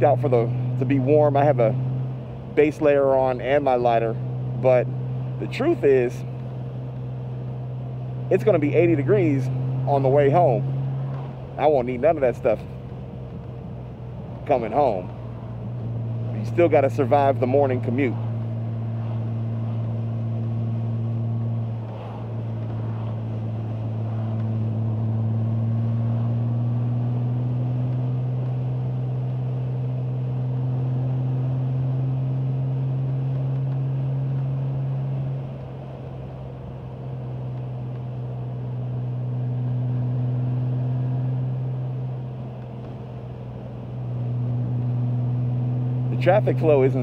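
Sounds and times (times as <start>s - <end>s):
motorcycle engine humming: 0.0s - 47.0s
wind and road noise: 0.0s - 47.0s.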